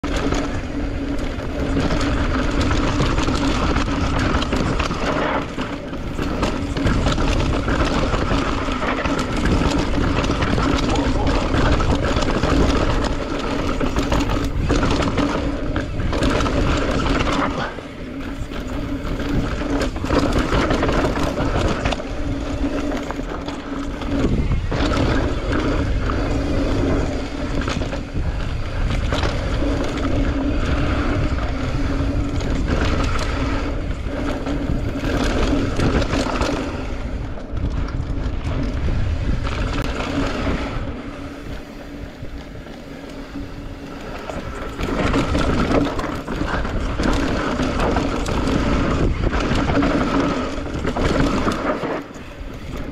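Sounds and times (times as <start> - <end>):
bike rattling over rough ground: 0.0 - 52.9
wind buffeting microphone: 0.0 - 52.9.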